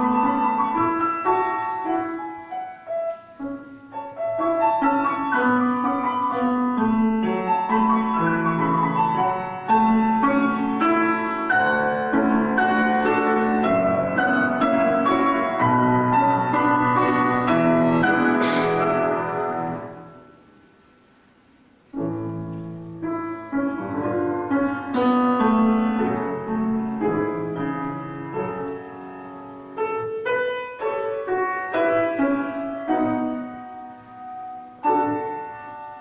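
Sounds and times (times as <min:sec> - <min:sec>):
solo piano playing: 0:00.0 - 0:21.0, 0:21.7 - 0:36.0.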